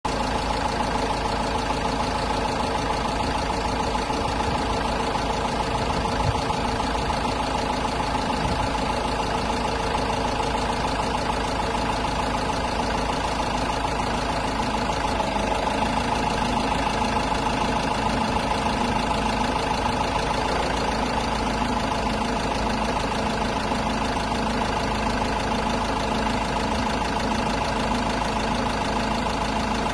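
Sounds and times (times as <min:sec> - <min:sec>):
diesel engine idling: 0:00.0 - 0:29.9.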